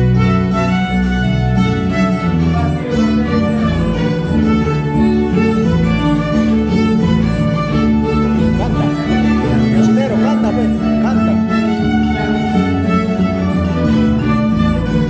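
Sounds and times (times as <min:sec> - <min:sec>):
electric bass guitar: 0:00.0 - 0:15.0
harp: 0:00.0 - 0:15.0
violins playing melody: 0:00.0 - 0:15.0.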